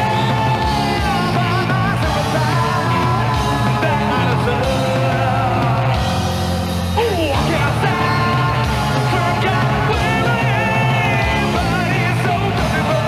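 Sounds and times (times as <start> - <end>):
person singing: 0.0 - 6.3, 7.0 - 13.0
live rock band playing: 0.0 - 13.0.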